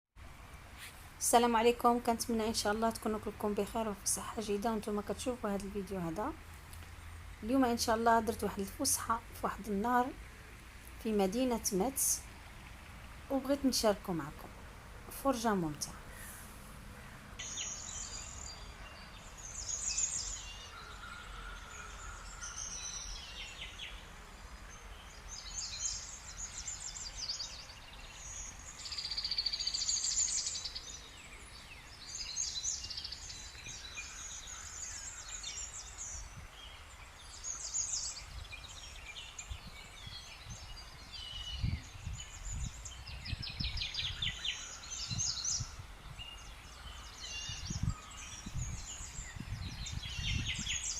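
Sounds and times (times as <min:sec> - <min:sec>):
songbirds singing and chirping: 0:00.5 - 0:50.9.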